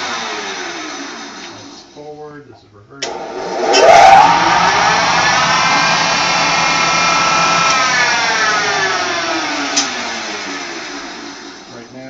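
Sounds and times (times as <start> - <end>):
mill spindle motor whine: 0.0 - 1.8, 3.1 - 12.0.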